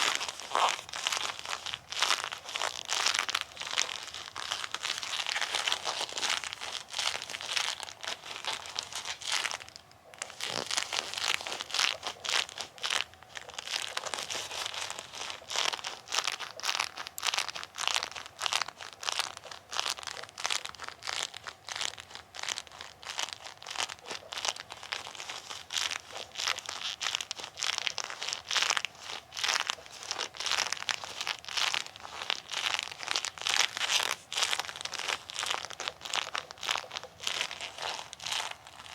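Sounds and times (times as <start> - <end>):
rubber gloves rubbing and crackling: 0.0 - 38.9.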